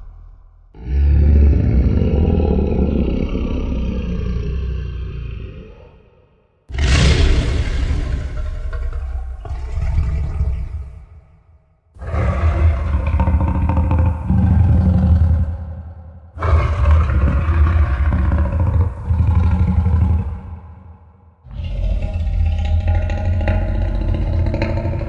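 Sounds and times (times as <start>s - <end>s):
dragon roar with echo: 0.0s - 9.8s, 12.0s - 25.0s.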